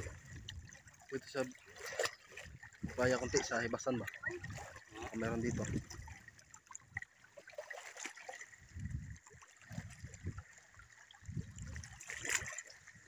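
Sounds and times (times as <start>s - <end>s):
person wading through water: 0.0s - 13.0s
seawater sloshing among rocks: 0.0s - 13.0s
soft low water surges: 0.0s - 13.0s.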